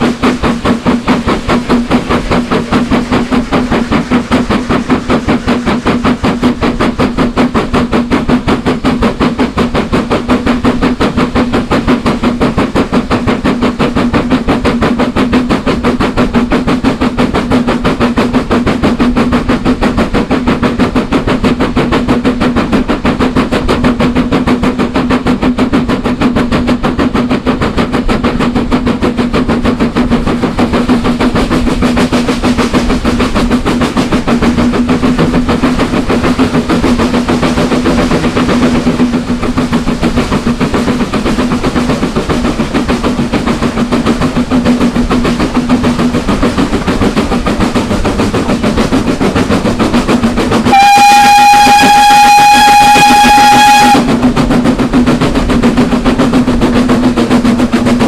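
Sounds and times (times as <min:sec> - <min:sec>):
steady train drone: 0:00.0 - 0:58.0
steam locomotive exhaust beating: 0:00.0 - 0:58.0.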